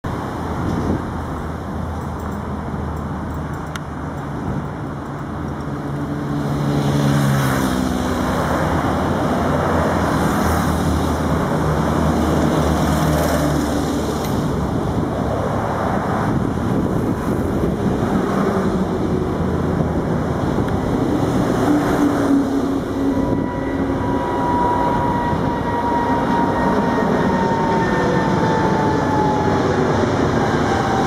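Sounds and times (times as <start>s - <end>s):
jet engines roaring: 0.0s - 31.0s.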